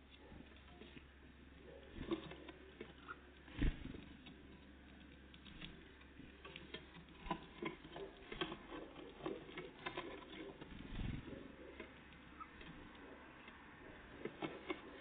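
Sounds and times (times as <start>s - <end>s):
birds pecking and scratching: 0.0s - 15.0s.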